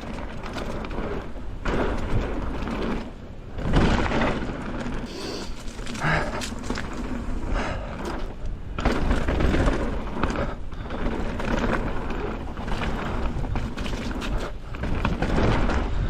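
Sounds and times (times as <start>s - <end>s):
bike frame and chain clattering: 0.0s - 16.0s
bike tyres rumbling on dirt: 0.0s - 16.0s.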